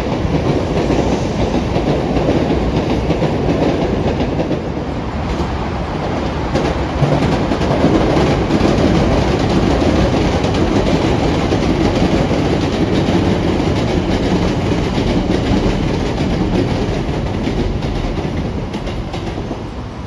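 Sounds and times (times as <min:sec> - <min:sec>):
train wheels clacking over rail joints: 0:00.0 - 0:19.9.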